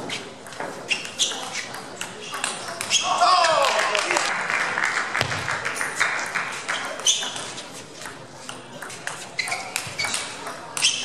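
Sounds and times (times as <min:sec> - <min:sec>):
faint murmur of voices: 0:00.0 - 0:11.0.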